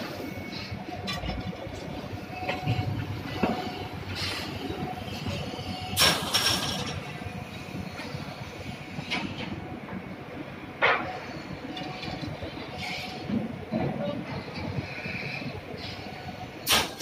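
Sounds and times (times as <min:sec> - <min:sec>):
shipyard work noise: 0:00.0 - 0:17.0.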